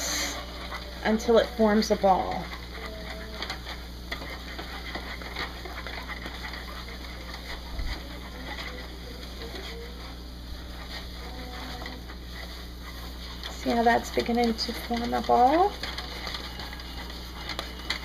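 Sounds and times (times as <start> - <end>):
faint sizzling: 0.0 - 18.0
wooden spoon scraping saucepan: 0.0 - 18.0.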